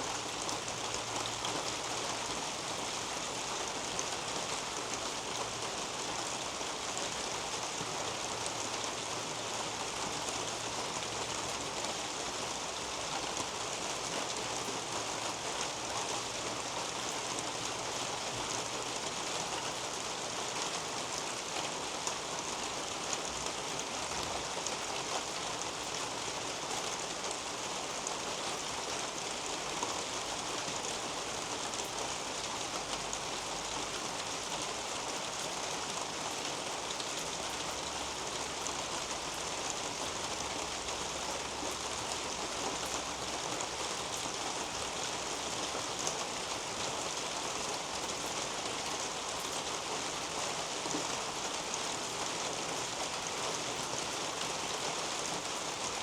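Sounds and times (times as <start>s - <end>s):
rain on leaves and roof: 0.0s - 56.0s.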